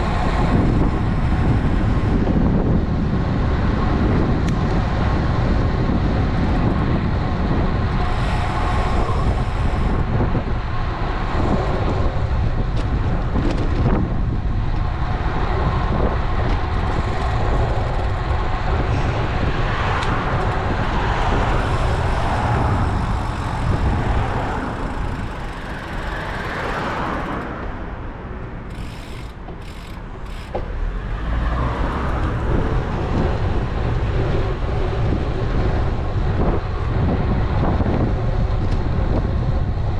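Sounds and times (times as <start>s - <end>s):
road traffic noise: 0.0s - 39.9s
wind on microphone: 0.0s - 39.9s.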